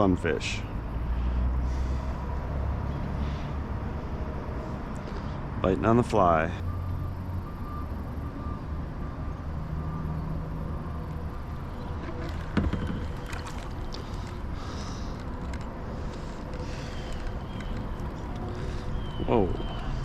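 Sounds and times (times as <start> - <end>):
distant engine humming: 0.6 - 20.0.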